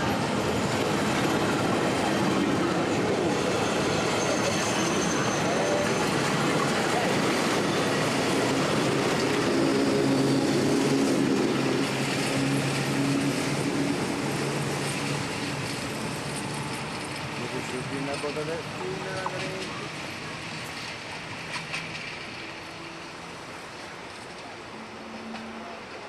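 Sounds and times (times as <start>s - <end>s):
steam train rumbling rattle: 0.0s - 26.0s.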